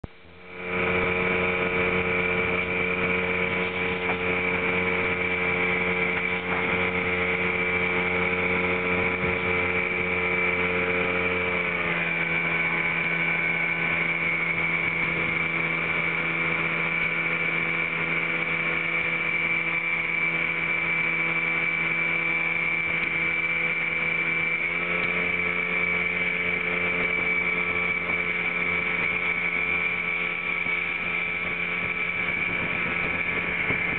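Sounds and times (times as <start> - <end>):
high whine: 0.0 - 33.9
motorboat engine running: 0.0 - 33.9.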